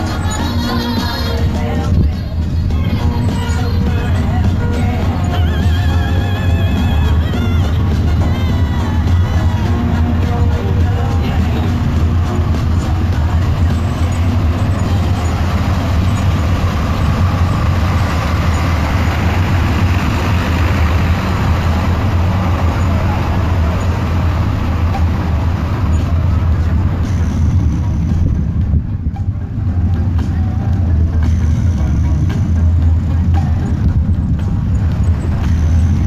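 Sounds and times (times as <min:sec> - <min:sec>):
drums and percussion music: 0:00.0 - 0:36.0
low rumble of street traffic: 0:00.0 - 0:36.0.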